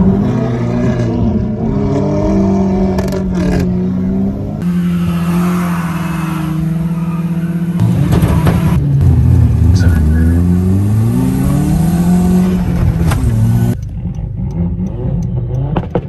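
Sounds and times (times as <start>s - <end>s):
car engine revving: 0.0s - 16.0s
car engine steady drone: 0.0s - 16.0s.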